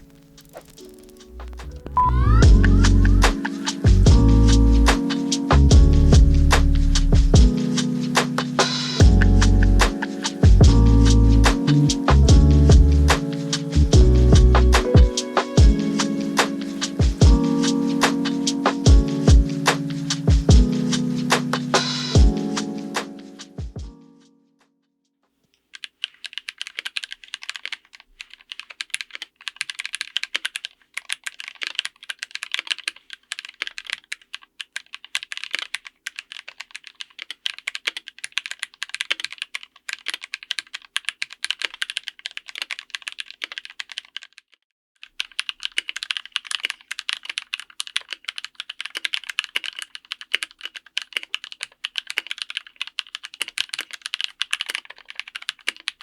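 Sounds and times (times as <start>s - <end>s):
mechanical keyboard typing: 0.0s - 23.5s, 25.6s - 56.0s.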